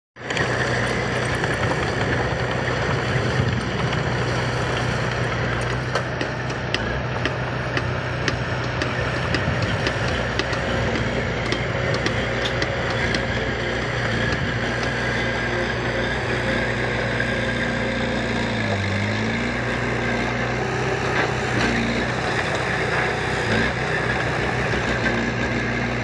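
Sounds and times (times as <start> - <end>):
diesel truck engines humming: 0.2 - 26.0.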